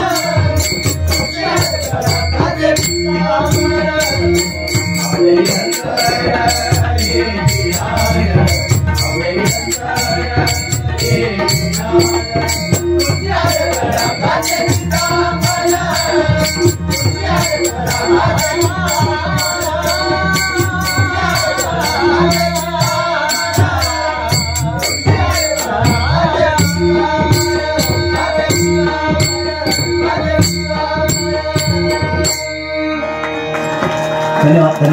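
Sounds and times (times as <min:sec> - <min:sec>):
hand drums playing: 0:00.0 - 0:34.2.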